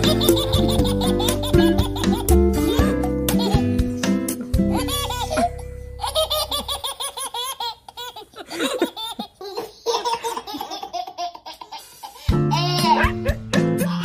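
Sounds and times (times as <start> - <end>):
babies laughing: 0.0 - 14.0.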